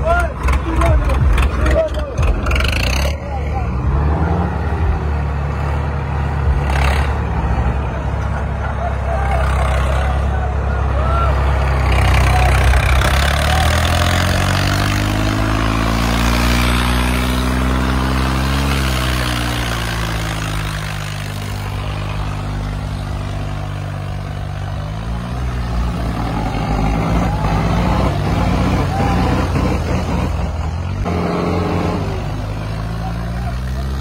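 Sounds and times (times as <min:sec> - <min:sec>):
tractor diesel engine revving: 0:00.0 - 0:34.0.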